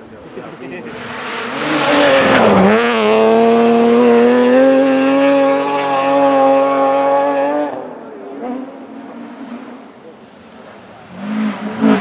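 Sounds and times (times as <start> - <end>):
rally car passing at speed: 0.2 - 12.0.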